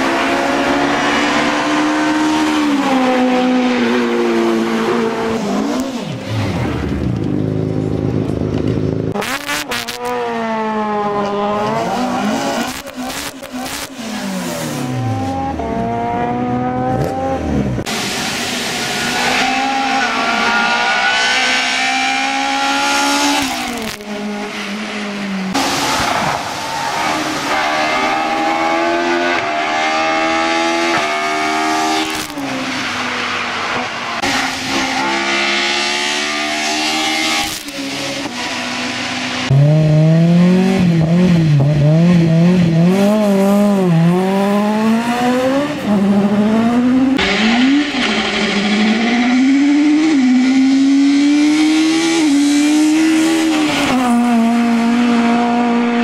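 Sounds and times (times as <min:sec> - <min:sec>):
race car engines at full throttle: 0:00.0 - 0:56.0.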